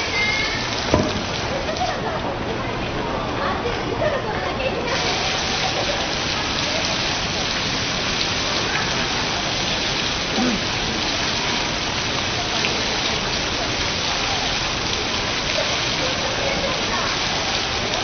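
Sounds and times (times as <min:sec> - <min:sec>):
water streaming and splashing: 0:00.0 - 0:18.0.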